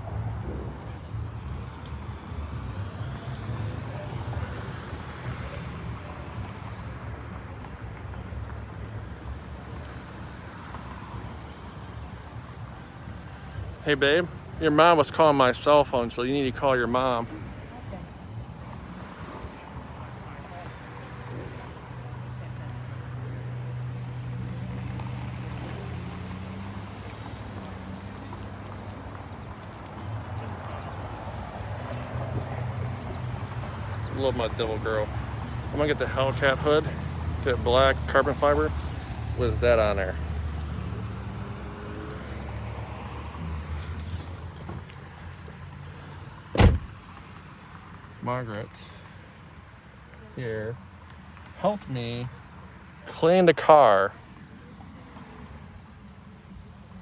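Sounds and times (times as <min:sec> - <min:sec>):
outdoor background noise: 0:00.0 - 0:57.0.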